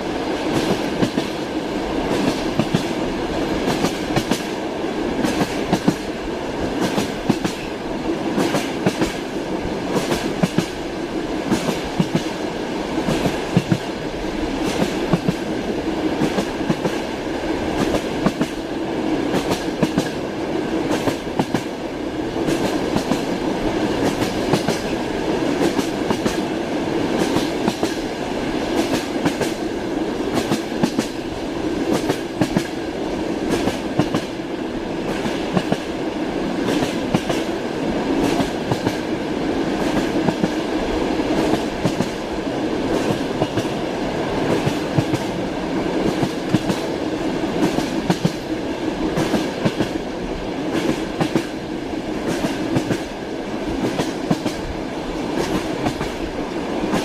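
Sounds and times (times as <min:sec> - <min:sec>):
train rumble: 0:00.0 - 0:57.0
train wheels clattering on rails: 0:00.0 - 0:57.0.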